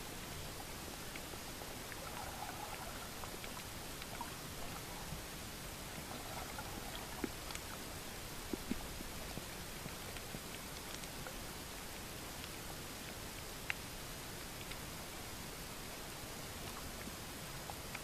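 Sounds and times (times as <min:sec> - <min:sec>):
underwater clicks and crackles: 0:00.2 - 0:18.0.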